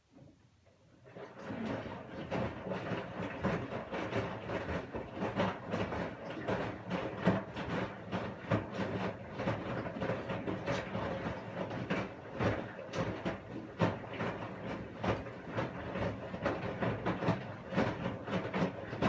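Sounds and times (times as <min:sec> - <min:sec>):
washing machine drum swishing: 0:01.0 - 0:19.0.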